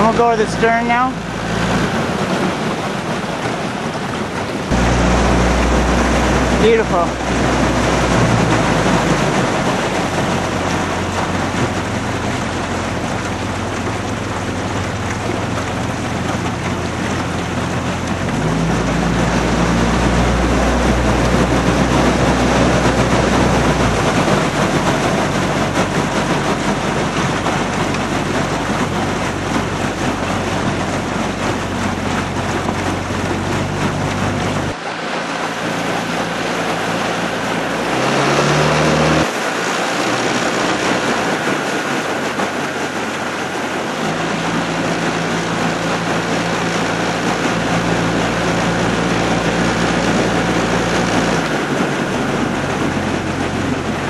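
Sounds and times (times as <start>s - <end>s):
motorboat engine running: 0.0s - 54.0s
wind and water rushing: 0.0s - 54.0s.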